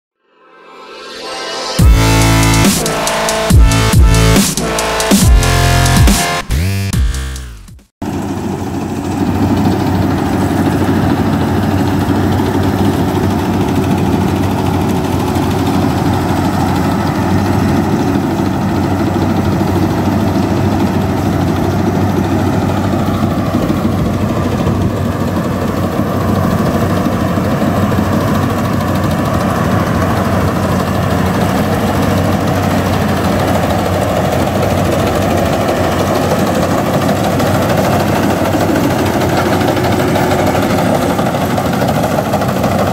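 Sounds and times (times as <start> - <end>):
combine harvester engine humming: 1.3 - 6.8, 8.0 - 42.9
clatter of working machinery: 8.0 - 42.9.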